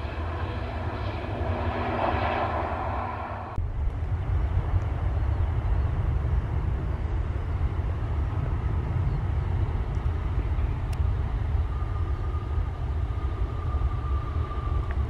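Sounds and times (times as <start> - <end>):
jet engines low rumble: 0.0 - 15.0.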